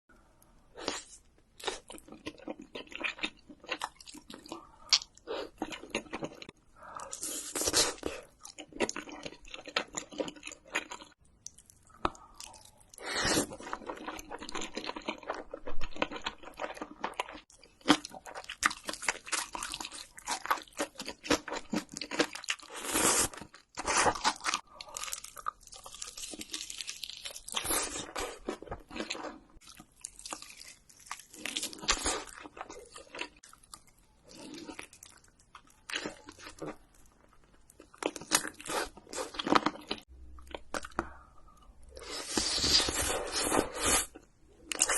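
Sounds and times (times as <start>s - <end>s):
crunching and chewing fried food: 0.8s - 44.9s.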